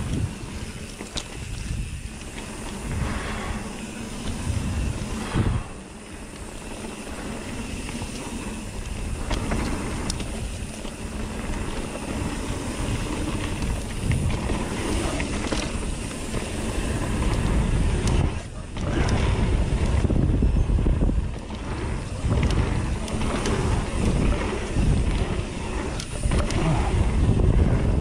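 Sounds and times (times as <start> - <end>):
bike rattling over ground: 0.0 - 28.0
tyre noise on dirt: 0.0 - 28.0
wind rushing: 1.4 - 6.2, 7.1 - 28.0
low rumble: 1.5 - 28.0.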